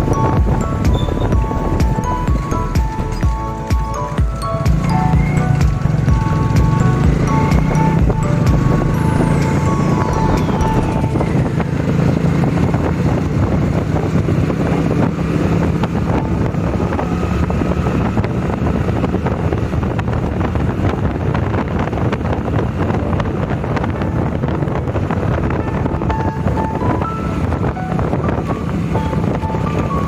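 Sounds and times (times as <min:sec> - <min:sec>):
motorcycle engine hum: 0:00.0 - 0:30.0
wind noise on microphone: 0:00.0 - 0:30.0.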